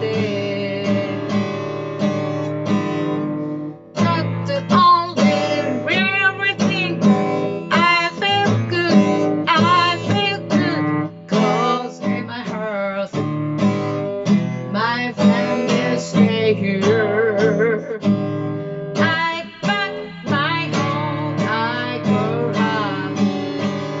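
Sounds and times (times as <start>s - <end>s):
person singing: 0.0s - 1.8s, 4.0s - 13.3s, 14.0s - 24.0s
strummed acoustic guitar: 0.0s - 24.0s.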